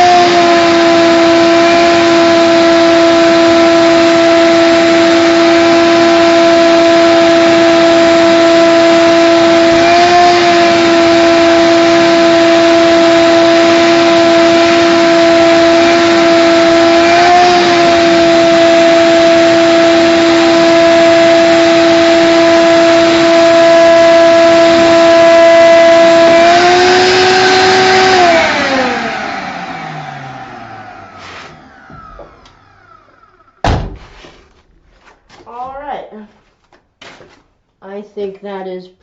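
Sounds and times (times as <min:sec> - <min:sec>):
vacuum cleaner motor humming: 0:00.0 - 0:33.4.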